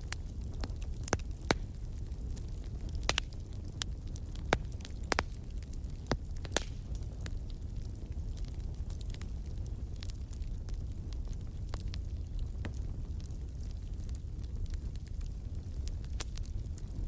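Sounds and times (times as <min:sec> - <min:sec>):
campfire wood crackling: 0:00.0 - 0:17.0
low fire rumble: 0:00.0 - 0:17.0.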